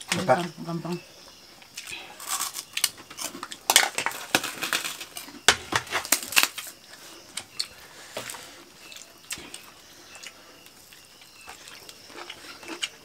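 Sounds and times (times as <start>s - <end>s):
crunching and clicking of eating: 1.6s - 13.0s.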